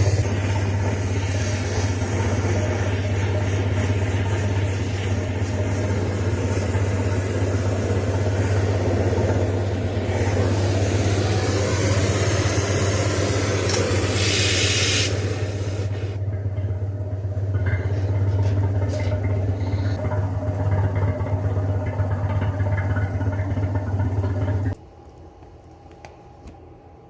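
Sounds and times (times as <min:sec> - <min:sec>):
machine humming and hissing: 0:00.0 - 0:24.8.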